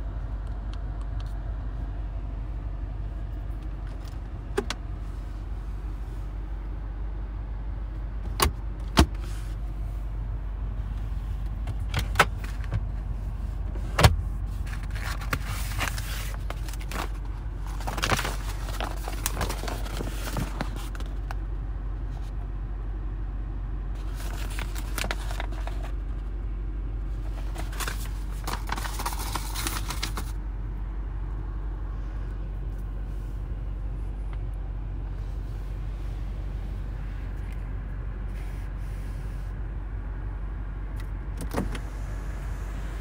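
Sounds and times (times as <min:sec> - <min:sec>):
car cabin drone: 0:00.0 - 0:43.0.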